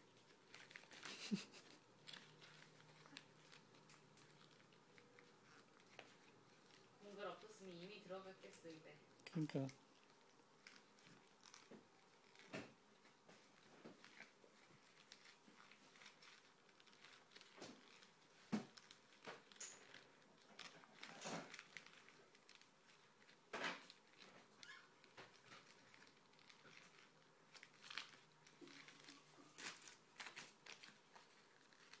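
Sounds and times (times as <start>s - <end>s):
magazine paper crinkling: 0.0s - 7.6s, 9.8s - 32.0s.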